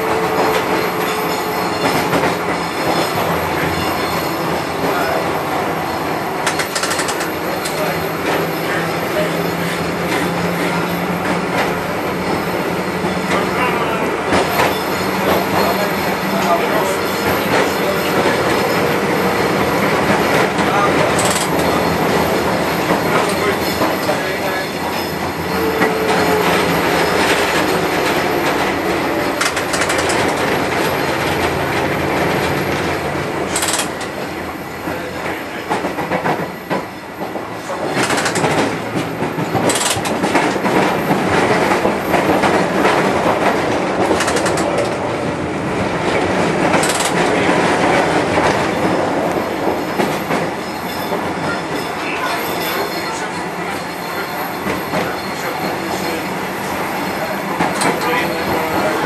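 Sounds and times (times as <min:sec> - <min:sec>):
tram rumbling and rattling: 0:00.0 - 0:59.0.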